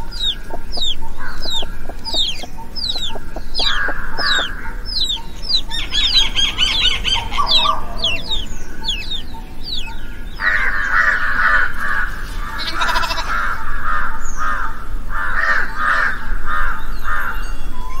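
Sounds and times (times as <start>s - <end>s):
bird calls: 0.0s - 18.0s
birds chirping: 0.0s - 18.0s.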